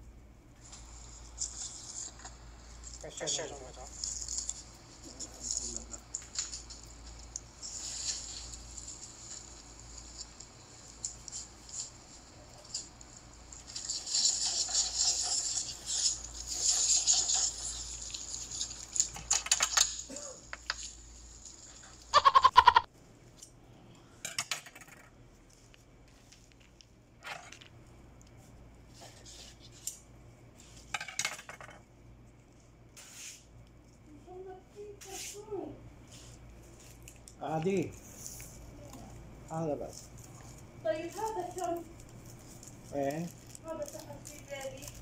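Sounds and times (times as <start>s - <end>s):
wrapping rustling and crinkling: 0.6s - 22.2s, 25.3s - 30.8s, 32.2s - 45.0s.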